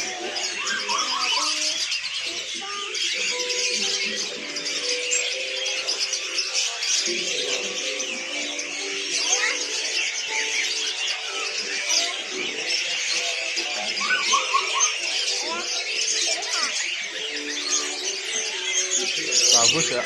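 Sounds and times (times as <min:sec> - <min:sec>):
songbirds chirping and twittering: 0:00.0 - 0:20.0.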